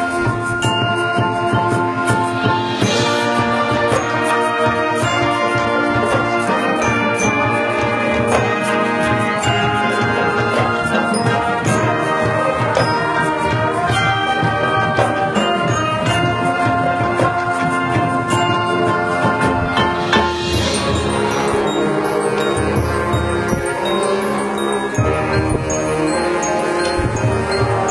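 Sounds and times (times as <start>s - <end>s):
brass chords: 0.0s - 27.9s
marching percussion: 0.0s - 27.9s.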